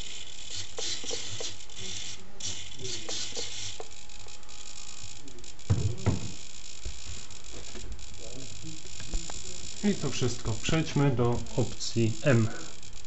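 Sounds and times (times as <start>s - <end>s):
servos buzzing: 0.0s - 13.0s.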